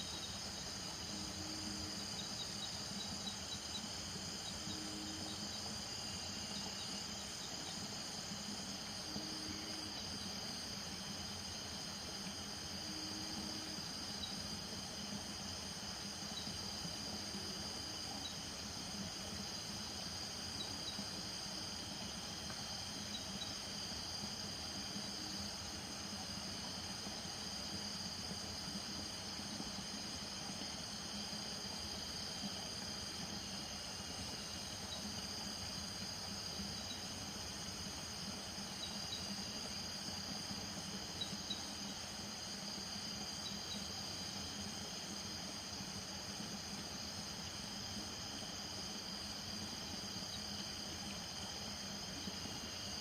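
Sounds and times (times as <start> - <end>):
cricket trills: 0.0 - 53.0.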